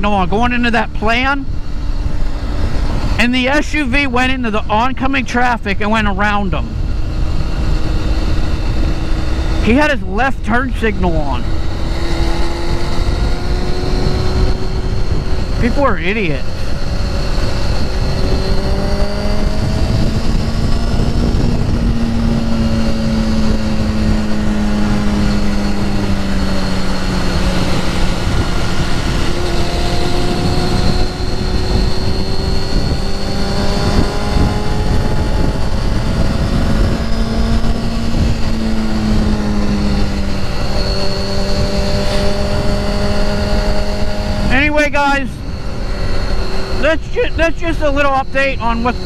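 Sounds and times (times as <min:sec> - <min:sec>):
motorcycle engine cruising: 0:00.0 - 0:49.0
riding wind rushing: 0:00.0 - 0:49.0.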